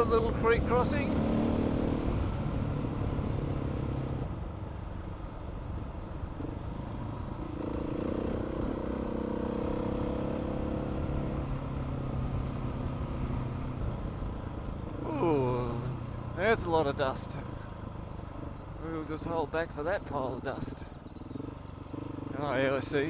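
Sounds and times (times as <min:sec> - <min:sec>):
wind and tyre noise: 0:00.0 - 0:23.0.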